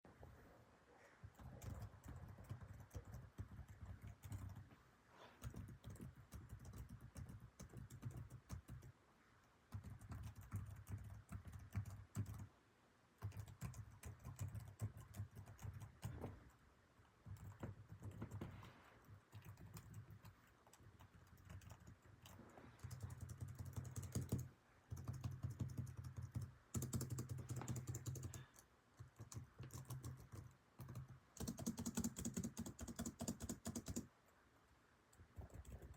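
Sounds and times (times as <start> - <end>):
laptop keyboard typing: 1.3 - 4.8, 5.4 - 9.0, 9.7 - 12.5, 13.2 - 16.6, 17.2 - 34.1, 35.1 - 35.9.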